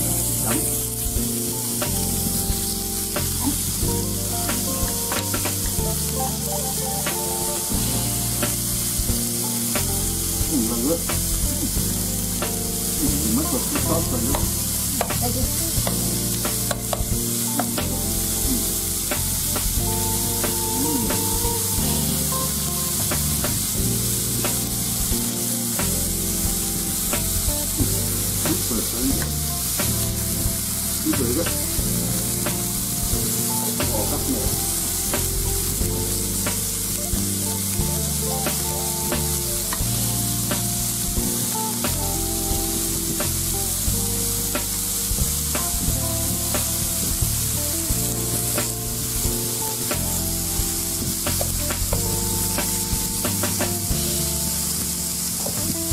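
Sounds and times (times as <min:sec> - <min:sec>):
background music: 0:00.0 - 0:55.9
meat sizzling on a grill: 0:00.0 - 0:55.9.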